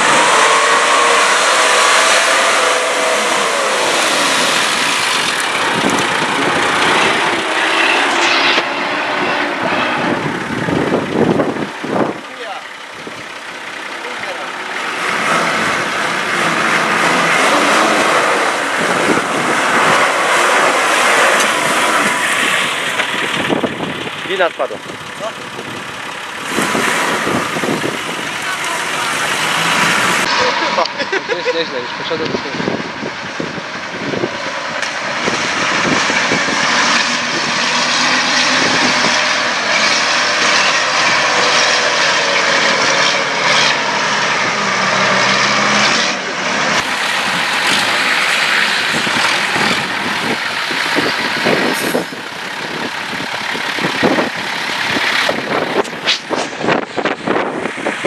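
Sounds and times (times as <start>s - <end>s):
diesel engine working hard: 0.0s - 58.0s.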